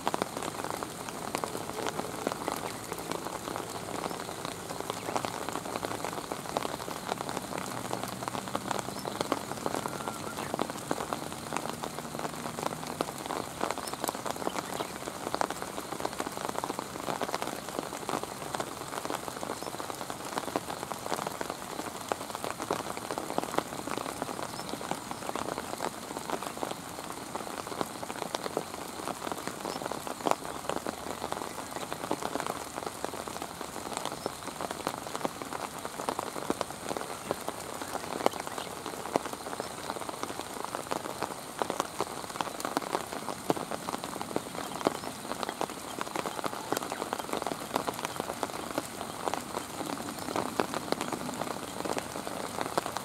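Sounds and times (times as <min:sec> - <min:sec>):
raindrops tapping on surfaces: 0:00.0 - 0:53.0
steady rain hiss: 0:00.0 - 0:53.0.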